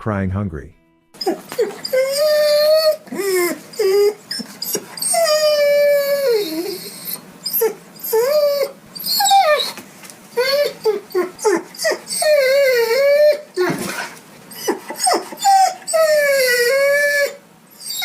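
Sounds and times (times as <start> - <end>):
dog whining and whimpering: 1.2 - 18.0.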